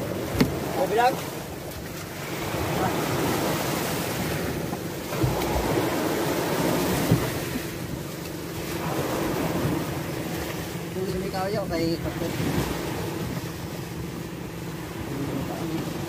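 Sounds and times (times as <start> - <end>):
sea water washing around boat: 0.0 - 16.0.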